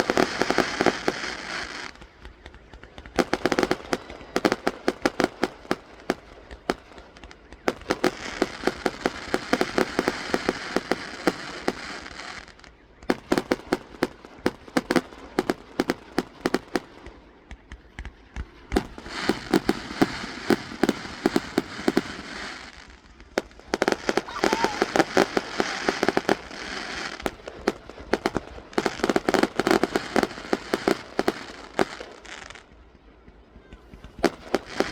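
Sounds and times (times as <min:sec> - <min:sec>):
fireworks crackling: 0:00.0 - 0:34.9
fireworks popping and banging: 0:00.0 - 0:34.9.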